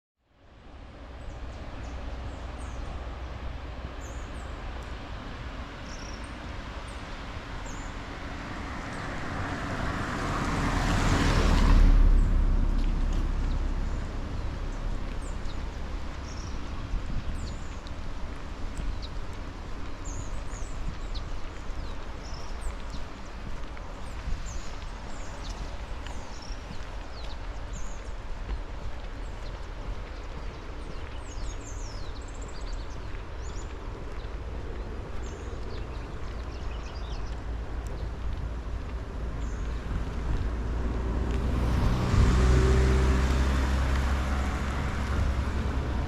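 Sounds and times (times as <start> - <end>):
car passing by: 0.5 - 46.0.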